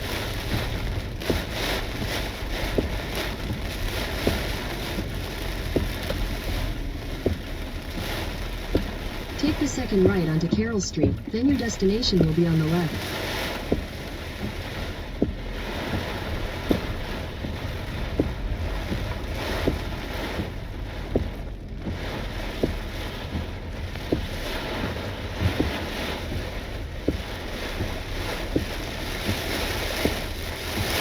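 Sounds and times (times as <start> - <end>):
road and wind noise inside car: 0.0 - 31.0.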